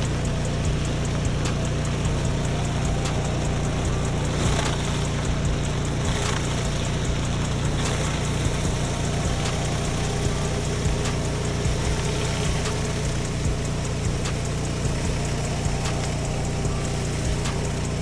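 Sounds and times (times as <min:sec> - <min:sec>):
pressure washer engine drone: 0:00.0 - 0:18.0.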